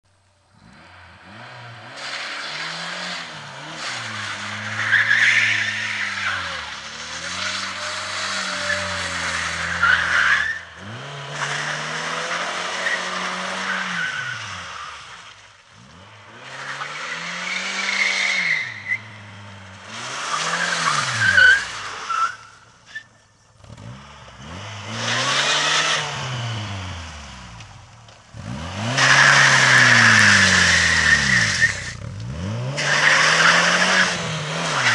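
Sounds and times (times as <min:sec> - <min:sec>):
car engine revving: 0:00.4 - 0:34.9
tyres skidding and squealing: 0:00.5 - 0:34.9.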